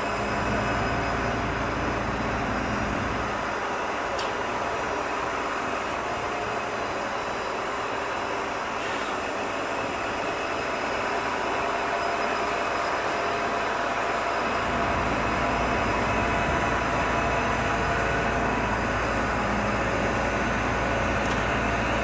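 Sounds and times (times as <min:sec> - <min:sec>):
truck engine and hydraulic pump: 0:00.0 - 0:22.0.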